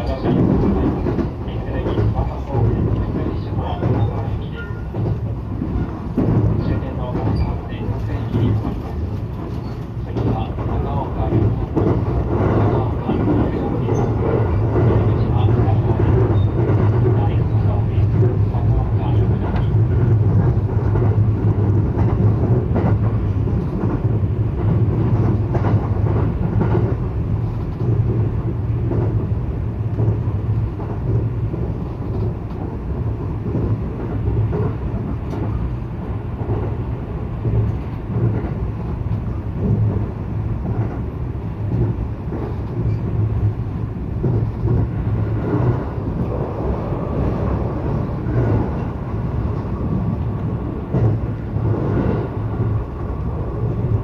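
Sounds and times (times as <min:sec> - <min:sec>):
rail clicks: 0:00.0 - 0:54.0
train rumble and hum: 0:00.0 - 0:54.0.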